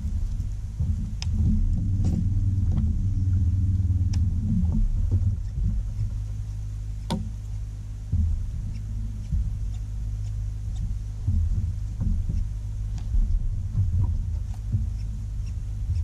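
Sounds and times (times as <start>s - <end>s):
electric trolling motor humming: 0.0s - 16.0s.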